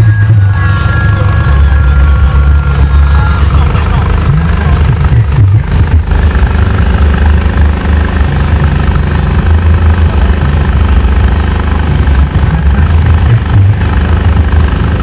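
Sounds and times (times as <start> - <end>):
loud bass-heavy music: 0.0 - 15.0.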